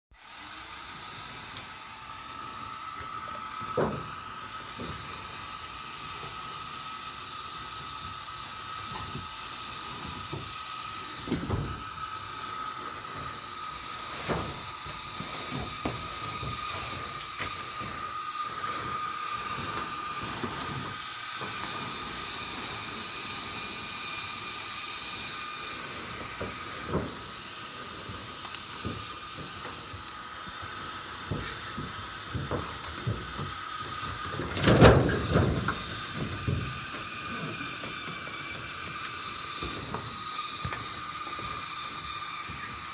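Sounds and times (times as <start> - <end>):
steady hiss: 0.2 - 42.9
steady whine: 0.4 - 42.9.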